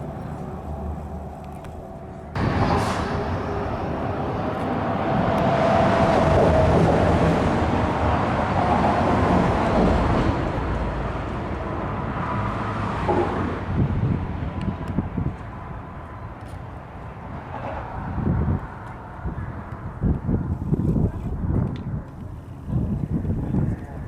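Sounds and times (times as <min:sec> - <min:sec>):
vehicle engine and tyre noise: 0:00.0 - 0:24.0.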